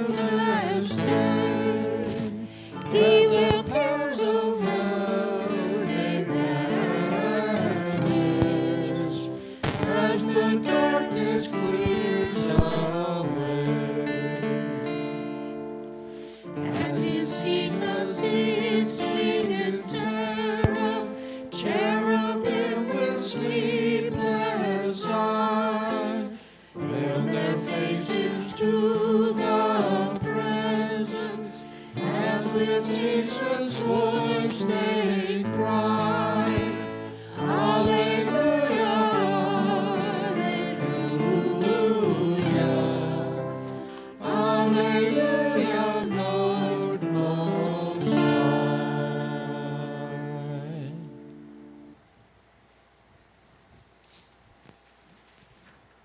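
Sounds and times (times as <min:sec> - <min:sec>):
instrumental accompaniment: 0:00.0 - 0:51.9
church singing: 0:00.0 - 0:52.0.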